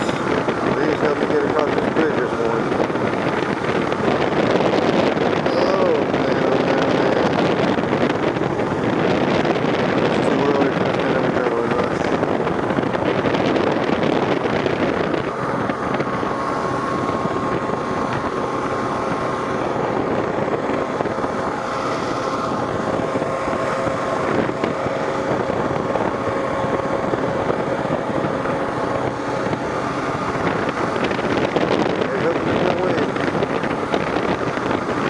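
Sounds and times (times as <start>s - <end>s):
motorcycle engine droning: 0.0s - 35.0s
steady hum: 0.0s - 35.0s
wind rushing past a helmet: 0.0s - 35.0s.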